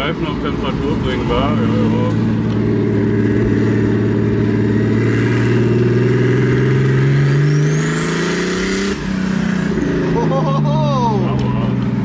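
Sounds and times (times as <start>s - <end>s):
car engine pulling: 0.0s - 12.0s.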